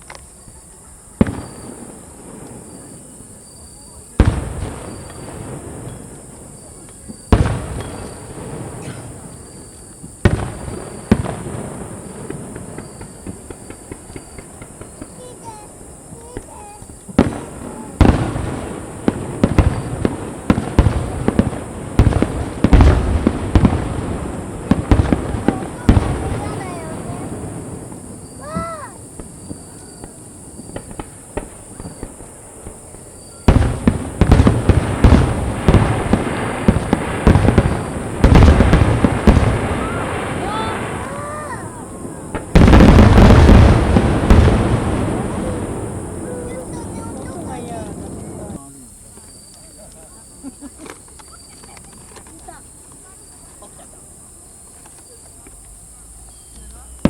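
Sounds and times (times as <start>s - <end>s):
faint quick firework pops: 0.0s - 0.3s, 1.2s - 3.1s, 4.1s - 53.6s, 54.7s - 57.0s
firework shells booming: 1.1s - 48.6s.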